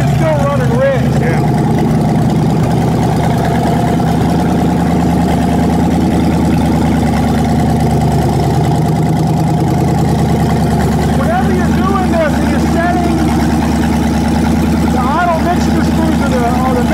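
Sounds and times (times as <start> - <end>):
engine idling without exhaust: 0.0 - 16.9.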